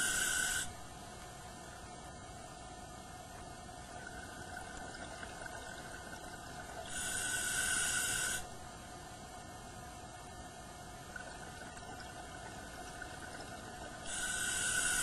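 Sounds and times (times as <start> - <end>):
faint camcorder tape whine: 0.0 - 15.0.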